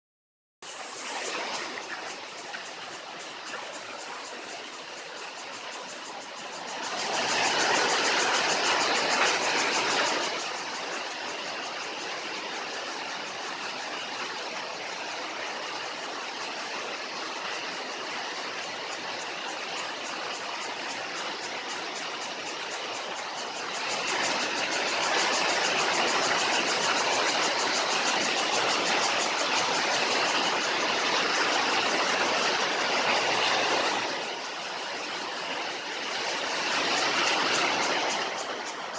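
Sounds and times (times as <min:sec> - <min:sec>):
waterfall pouring into pool: 0:00.6 - 0:38.9.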